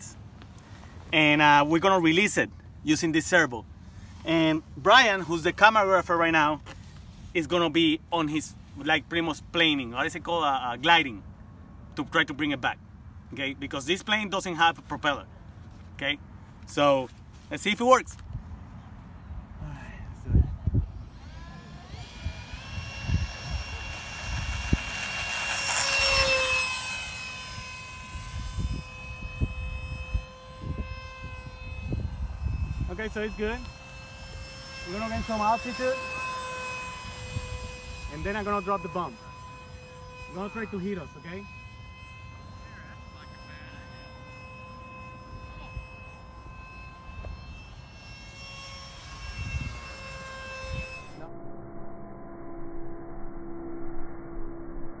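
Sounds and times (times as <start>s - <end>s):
electric ducted fan whine: 0.0s - 55.0s.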